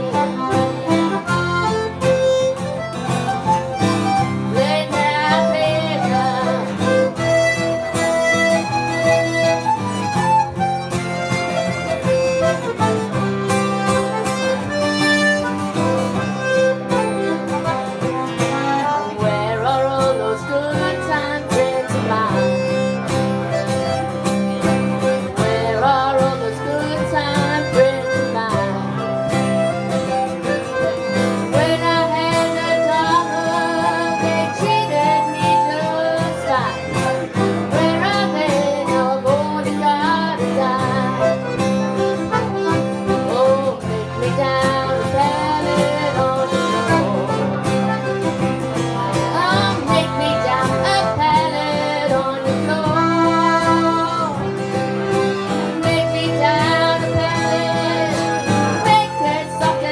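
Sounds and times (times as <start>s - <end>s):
accordion playing melody: 0.0s - 59.9s
acoustic guitar strumming: 0.0s - 59.9s.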